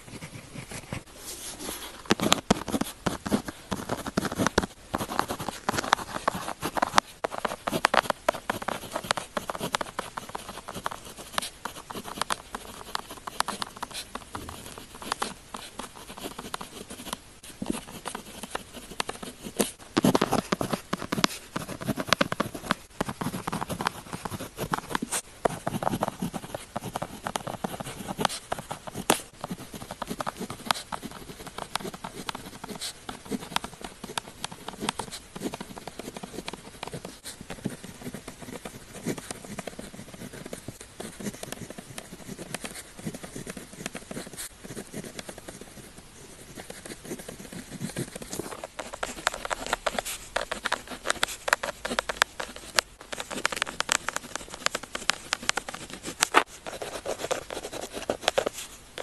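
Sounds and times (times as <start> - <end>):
pen scratching on paper: 0.0 - 59.0.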